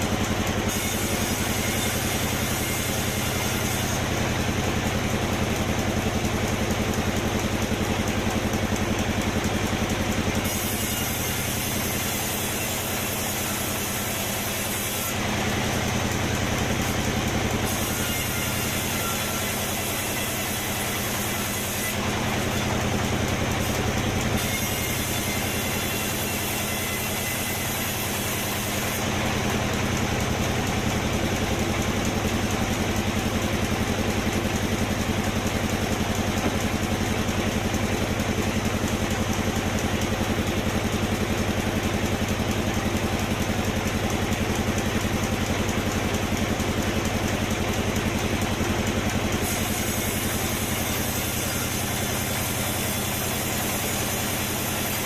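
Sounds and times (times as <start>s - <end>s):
sawmill machinery engine drone: 0.0s - 55.0s.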